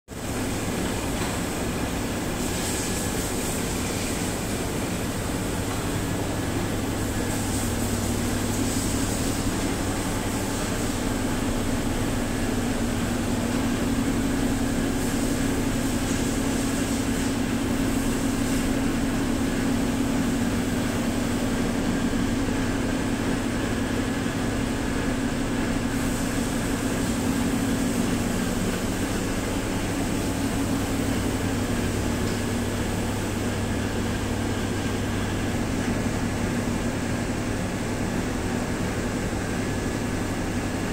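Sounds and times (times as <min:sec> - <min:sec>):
oven fans droning: 0:00.1 - 0:40.9.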